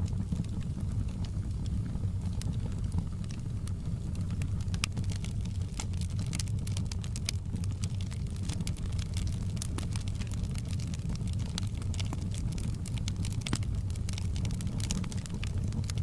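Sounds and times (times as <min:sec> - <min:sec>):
fireplace crackling: 0:00.1 - 0:16.0.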